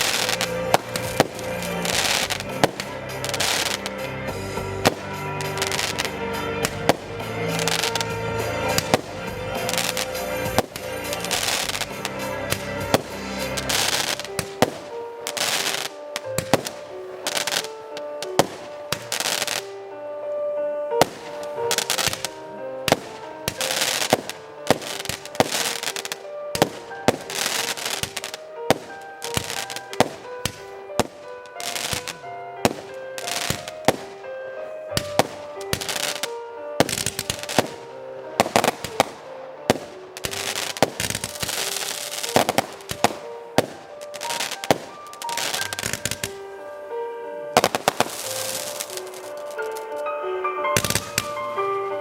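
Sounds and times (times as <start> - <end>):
fireworks bangs: 0.0 - 19.8, 20.9 - 34.3, 34.9 - 46.6, 47.5 - 50.0, 50.8 - 52.0
fireworks crackling hiss: 0.0 - 19.9, 20.9 - 50.1, 50.8 - 52.0
music with held notes: 0.0 - 52.0.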